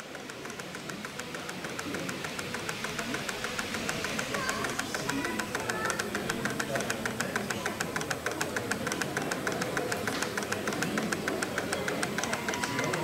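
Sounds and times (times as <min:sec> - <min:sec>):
model steam engine ticking: 0:00.0 - 0:13.0.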